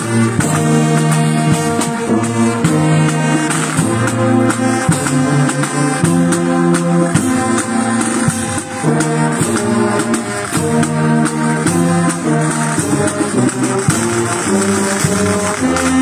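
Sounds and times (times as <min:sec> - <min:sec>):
marching brass band playing: 0:00.0 - 0:16.0
percussion beat: 0:00.0 - 0:16.0.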